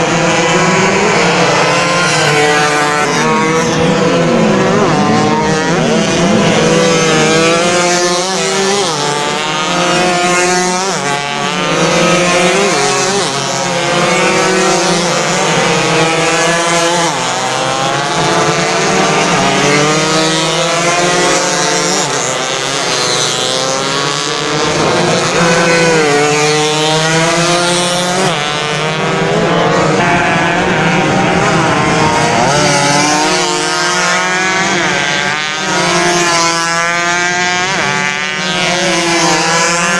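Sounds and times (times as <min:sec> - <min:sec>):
motorcycles racing at full throttle: 0:00.0 - 0:39.9.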